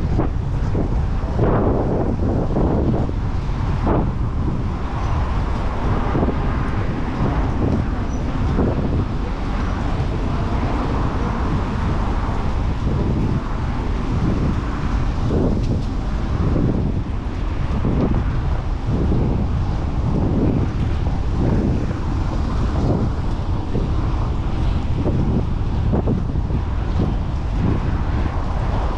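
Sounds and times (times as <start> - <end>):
city traffic noise: 0.0 - 28.9
wind buffeting microphone: 0.0 - 28.9.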